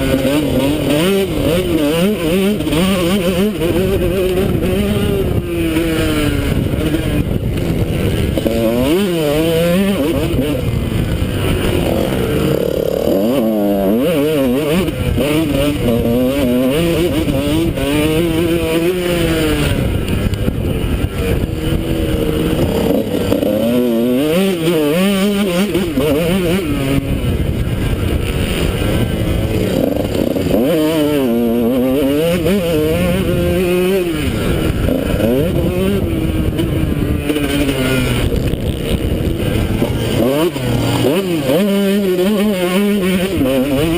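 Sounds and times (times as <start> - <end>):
two-stroke engine revving: 0.0 - 43.9
wind noise on helmet camera: 0.0 - 43.9.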